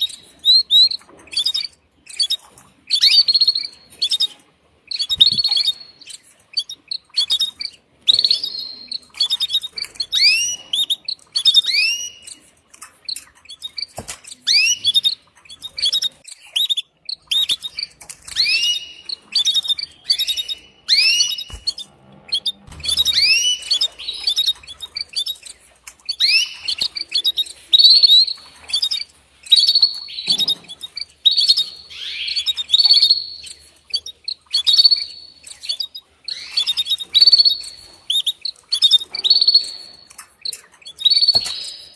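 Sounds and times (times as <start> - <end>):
canary chirping: 0.0 - 41.9.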